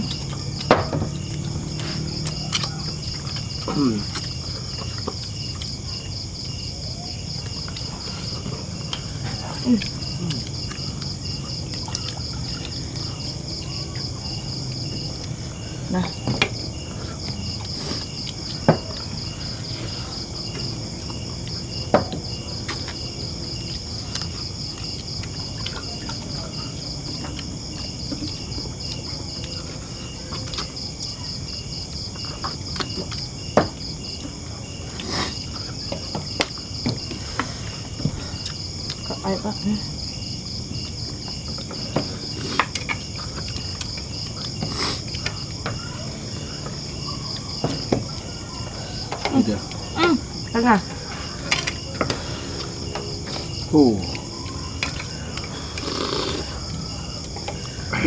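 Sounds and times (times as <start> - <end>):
night insects chirping: 0.0 - 58.0.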